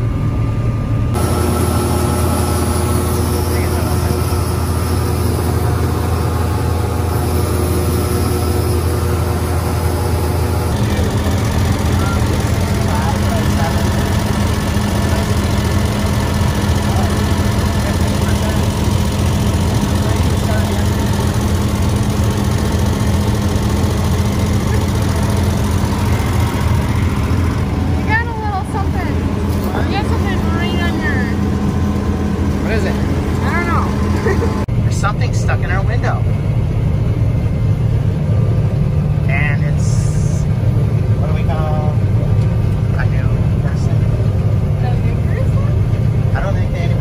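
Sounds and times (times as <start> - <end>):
combine harvester engine hum: 0.0 - 47.0.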